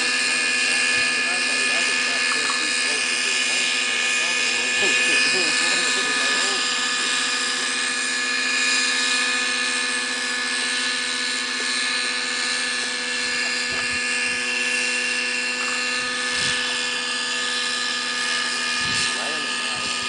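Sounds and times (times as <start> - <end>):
model helicopter engine whine: 0.0 - 20.0.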